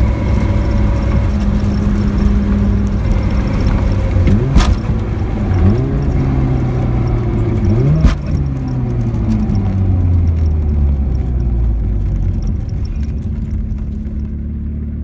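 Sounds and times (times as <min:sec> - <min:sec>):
rotary engine revving: 0:00.0 - 0:14.4.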